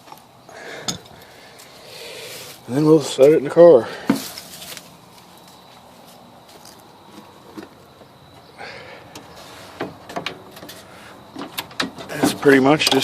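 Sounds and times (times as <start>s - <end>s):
handling noise: 2.4s - 13.0s.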